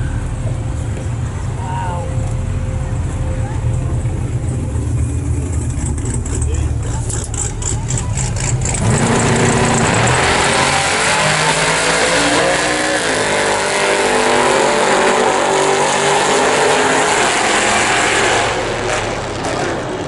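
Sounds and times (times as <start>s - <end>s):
racing engines at full throttle: 0.0s - 20.0s.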